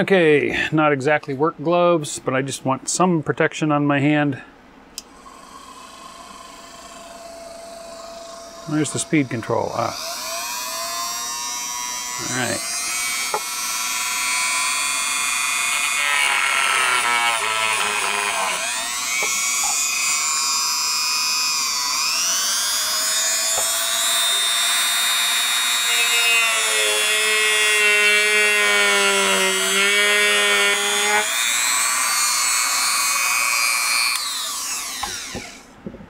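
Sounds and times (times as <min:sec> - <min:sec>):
rotary tool motor whine: 0:05.1 - 0:35.7.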